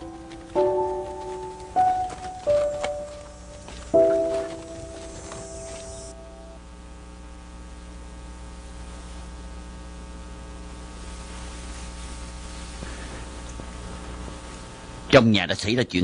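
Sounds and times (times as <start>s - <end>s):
light hiss: 0.0s - 6.6s, 7.7s - 15.2s
electrical mains hum: 0.0s - 16.0s.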